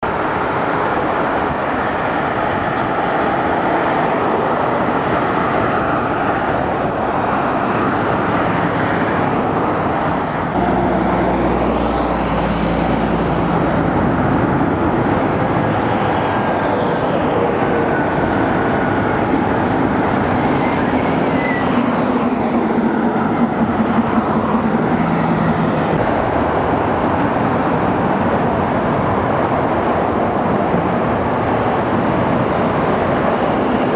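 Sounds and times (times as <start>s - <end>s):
light rail train rushing: 0.0s - 33.9s.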